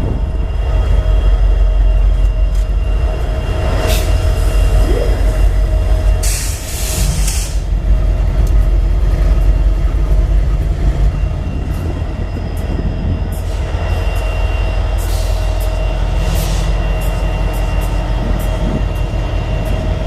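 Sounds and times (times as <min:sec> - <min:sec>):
freight train rumble: 0:00.0 - 0:20.0.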